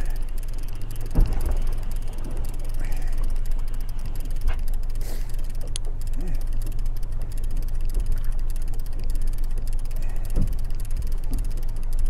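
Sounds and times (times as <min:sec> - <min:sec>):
fishing reel clicking: 0:00.0 - 0:12.0
steady low rumble: 0:00.0 - 0:12.0.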